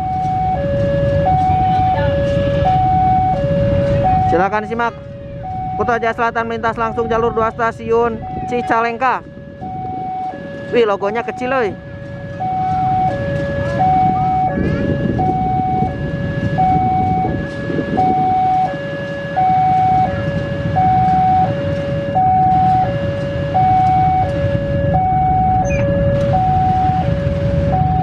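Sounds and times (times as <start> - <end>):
diesel locomotive engine rumble: 0.0 - 28.0
two-tone level-crossing alarm: 0.0 - 28.0.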